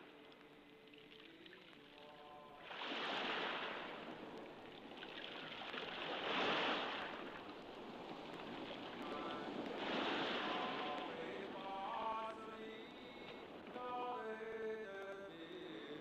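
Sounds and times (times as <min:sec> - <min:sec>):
small waves washing on beach: 0:00.0 - 0:16.0.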